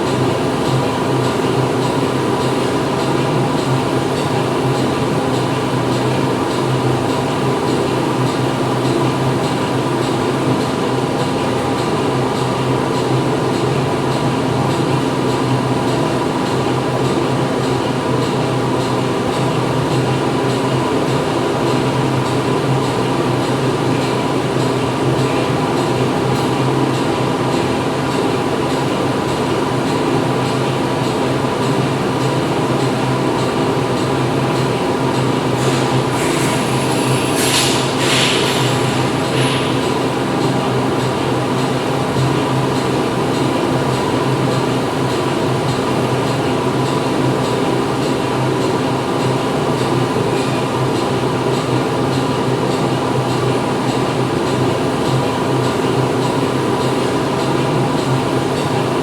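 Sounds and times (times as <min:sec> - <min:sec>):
industrial machinery hum: 0:00.0 - 0:59.0.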